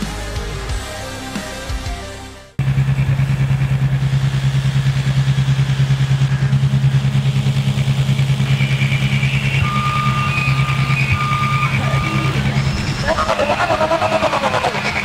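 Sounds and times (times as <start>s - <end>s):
low throbbing electronic hum: 0.0s - 15.0s.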